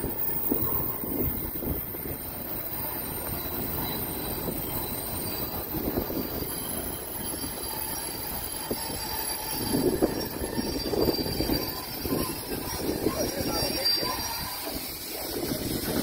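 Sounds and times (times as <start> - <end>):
high wheel squeal: 0.0 - 16.0
train wheels rumbling on rails: 0.0 - 16.0.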